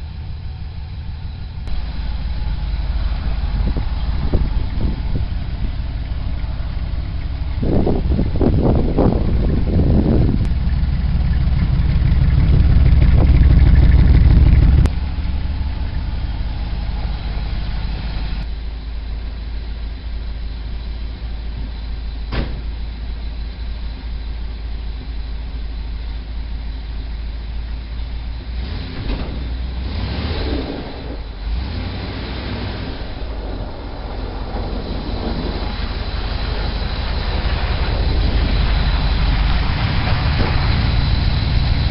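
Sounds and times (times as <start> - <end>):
car engine idling: 0.0 - 30.1, 30.7 - 41.9.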